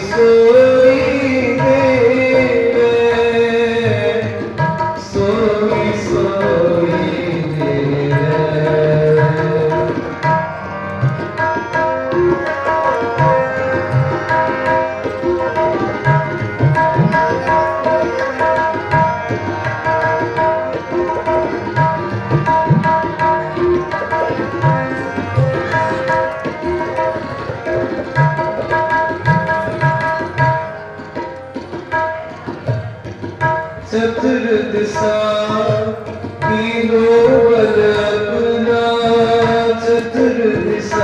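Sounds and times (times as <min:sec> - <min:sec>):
tabla playing: 0:00.0 - 0:41.0.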